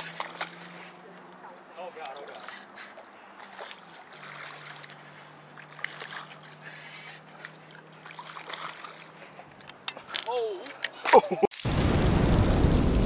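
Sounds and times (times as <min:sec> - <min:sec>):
water splashing and sloshing: 0:00.0 - 0:11.8.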